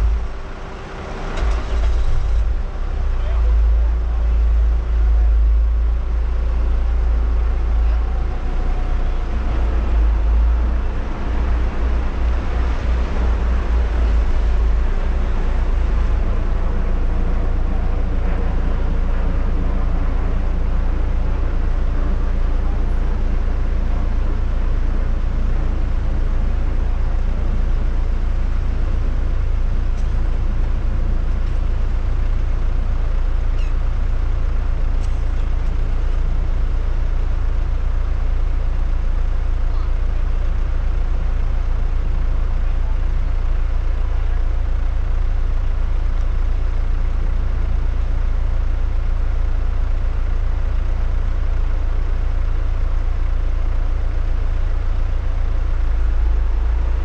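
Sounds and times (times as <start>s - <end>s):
engines idling: 0.0s - 57.0s.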